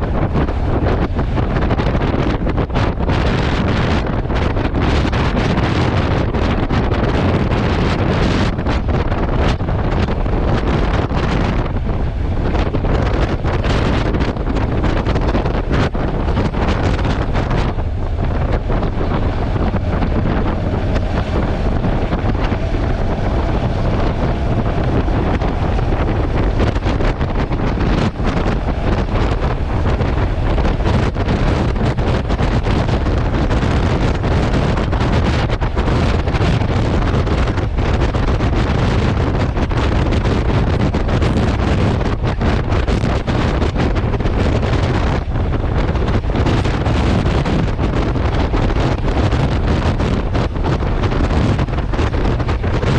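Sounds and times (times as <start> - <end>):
wind buffeting a microphone: 0.0 - 52.9.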